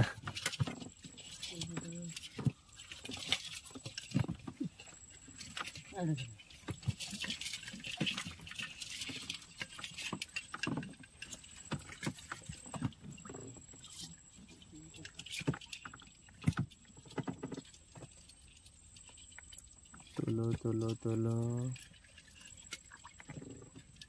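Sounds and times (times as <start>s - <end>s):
clicks and knocks from a boat: 0.0s - 24.0s
water dripping and splashing: 0.0s - 24.0s.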